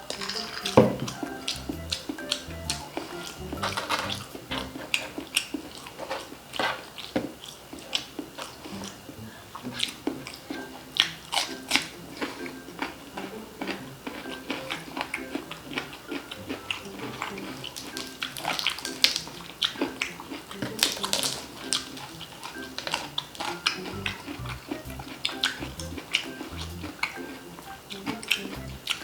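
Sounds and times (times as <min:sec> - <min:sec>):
background music: 0:00.0 - 0:05.2, 0:08.6 - 0:29.0
crispy food crunching: 0:00.0 - 0:09.0, 0:09.6 - 0:29.0.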